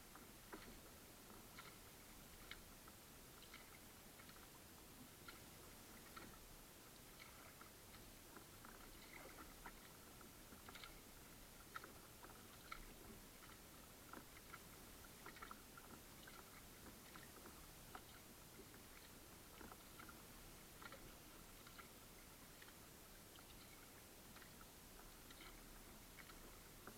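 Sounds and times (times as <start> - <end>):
low hiss: 0.0 - 26.9
water lapping and dripping: 0.0 - 26.9.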